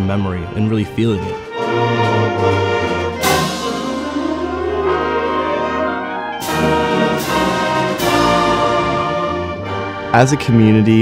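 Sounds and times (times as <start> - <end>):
wind band playing sustained chords: 0.0 - 11.0.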